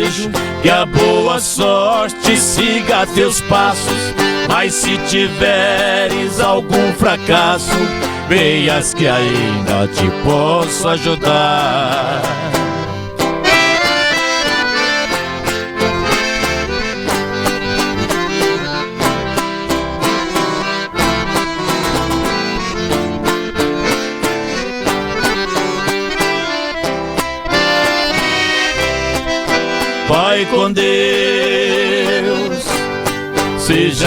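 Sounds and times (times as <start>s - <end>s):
bass line: 0.0s - 30.5s
accordion melody: 0.0s - 34.0s
plucked strings: 0.0s - 34.0s.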